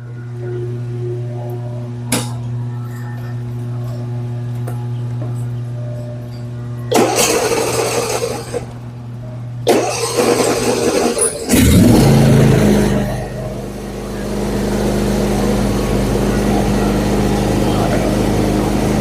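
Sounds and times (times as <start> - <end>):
riding mower engine running: 0.0 - 19.0.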